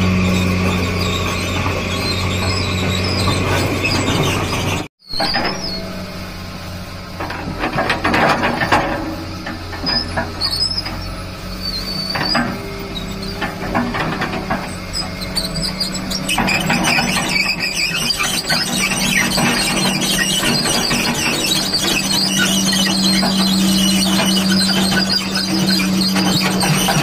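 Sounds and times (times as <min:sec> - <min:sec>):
excavator diesel engine hum: 0:00.0 - 0:27.0
short high squeals: 0:00.0 - 0:27.0.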